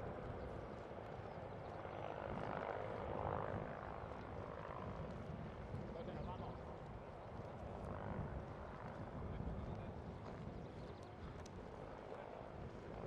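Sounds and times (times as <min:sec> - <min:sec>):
helicopter rotor and turbine rumble: 0:00.0 - 0:13.0.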